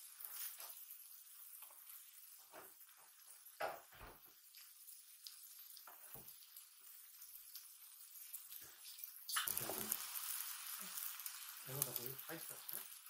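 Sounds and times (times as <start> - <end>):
noodles sizzling on a griddle: 0.0 - 13.0.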